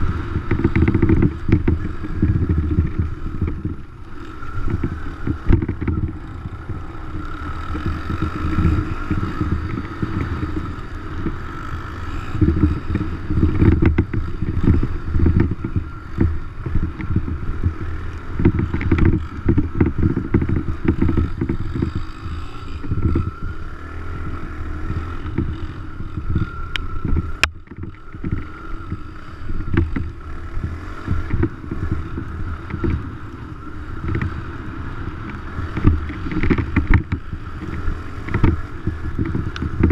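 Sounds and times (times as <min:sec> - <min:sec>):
dirt bike engine running: 0:00.0 - 0:39.9
wind buffeting microphone: 0:00.0 - 0:39.9.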